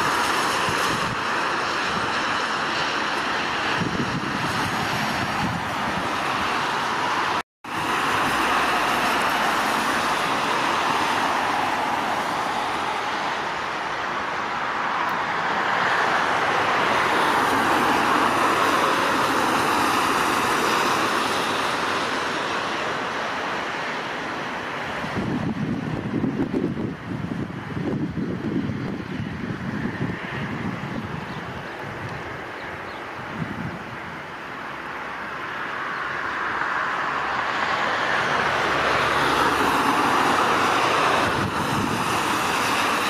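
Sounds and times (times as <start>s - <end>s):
jet engines rushing: 0.0s - 43.0s.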